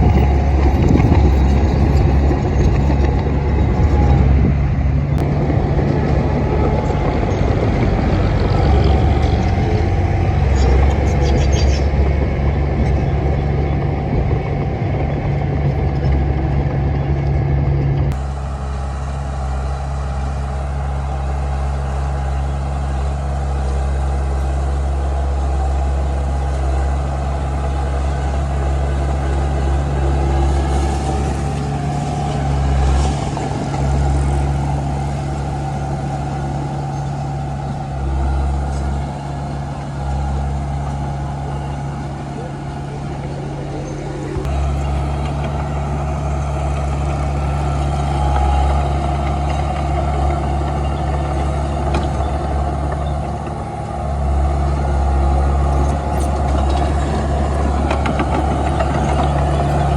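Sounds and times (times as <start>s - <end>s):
bulldozer diesel engine droning: 0.0s - 59.9s.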